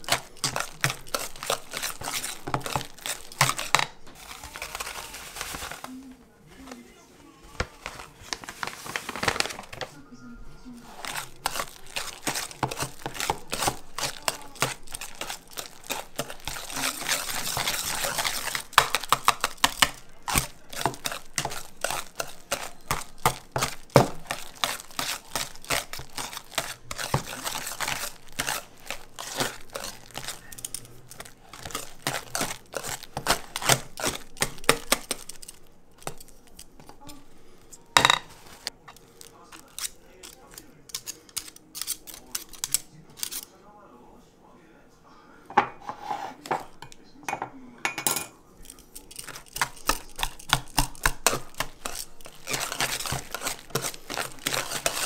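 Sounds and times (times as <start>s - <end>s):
whisk scraping steel bowl: 0.0s - 5.9s, 10.6s - 37.4s, 38.2s - 43.5s, 45.6s - 47.0s, 48.6s - 55.0s.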